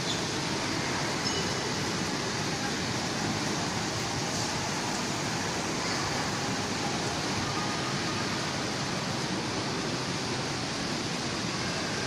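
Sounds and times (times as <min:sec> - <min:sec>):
shopping mall ambience: 0:00.0 - 0:12.0.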